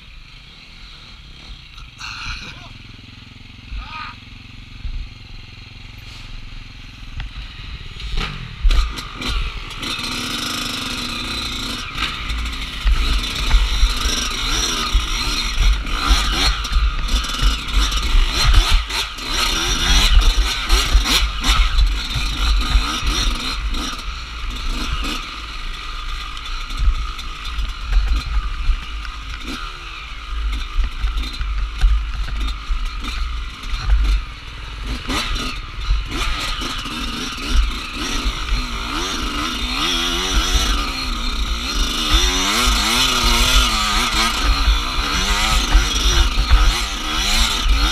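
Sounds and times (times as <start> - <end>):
dirt bike engine revving: 0.0 - 47.9
bike knocking and rattling: 7.0 - 47.9.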